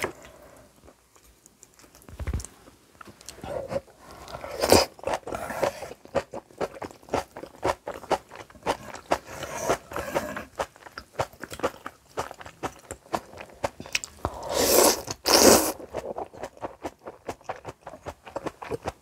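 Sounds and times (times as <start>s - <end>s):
crunchy chewing: 0.0s - 2.6s, 3.2s - 19.0s.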